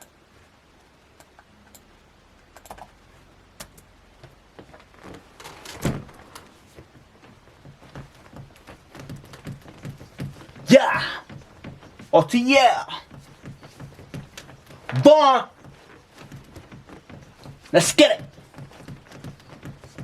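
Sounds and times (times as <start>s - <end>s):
faint clicks and taps: 0.0s - 5.3s, 6.1s - 12.2s, 12.9s - 20.0s.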